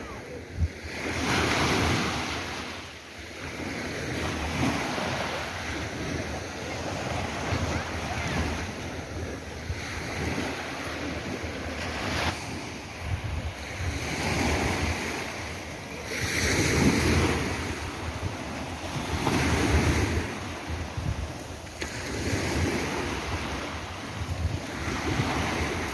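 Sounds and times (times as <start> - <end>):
sea waves breaking: 0.0 - 25.9
wind buffeting microphone: 3.4 - 25.9.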